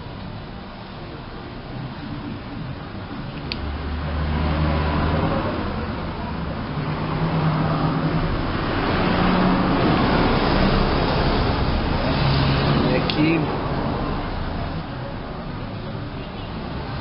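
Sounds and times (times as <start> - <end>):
traffic rushing noise: 0.0 - 17.0.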